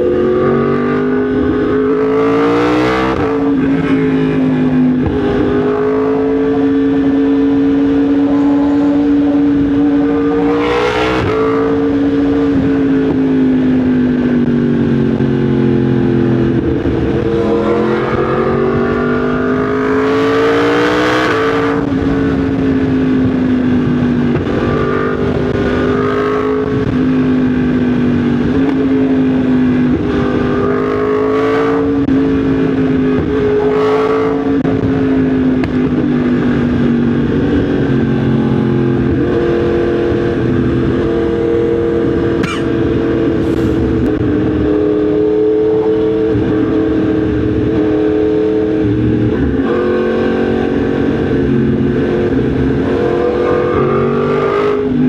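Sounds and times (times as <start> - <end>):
motorcycle engine revving: 0.0 - 55.0
road noise: 0.0 - 55.0.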